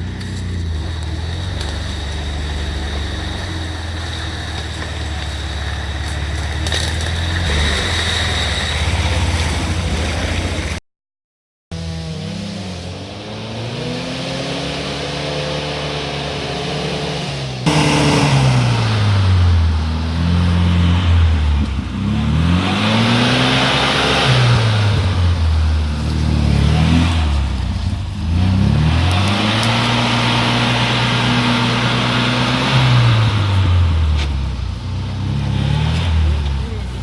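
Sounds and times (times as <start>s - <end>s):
off-road vehicle engine revving: 0.0s - 10.8s, 11.7s - 37.0s.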